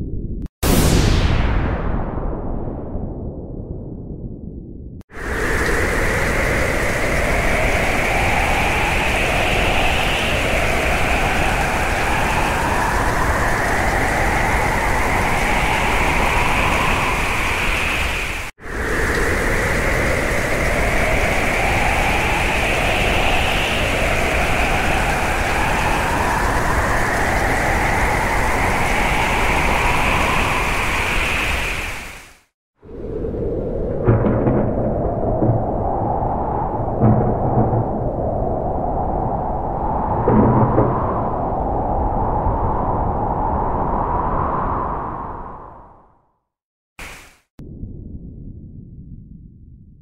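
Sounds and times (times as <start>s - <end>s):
rushing noise: 5.1s - 45.9s, 47.0s - 47.5s.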